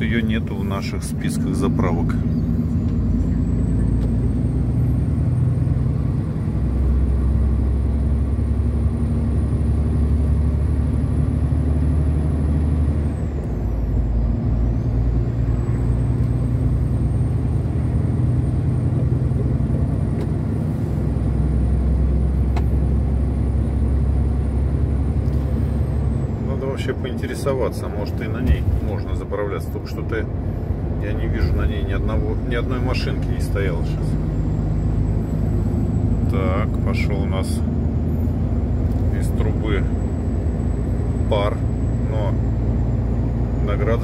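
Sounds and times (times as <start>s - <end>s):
road noise: 0.0s - 44.0s
truck diesel engine: 0.0s - 44.0s.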